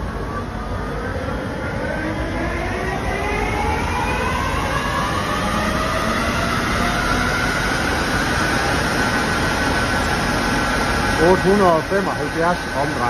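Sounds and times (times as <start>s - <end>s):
lathe spindle whine: 0.0s - 13.0s.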